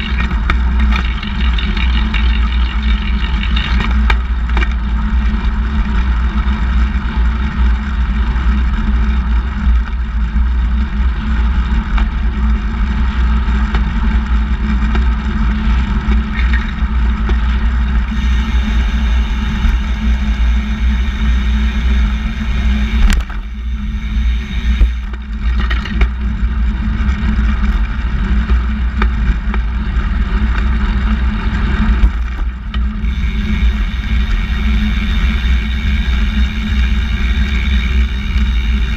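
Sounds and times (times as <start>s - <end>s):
wind and road rumble: 0.0s - 38.9s.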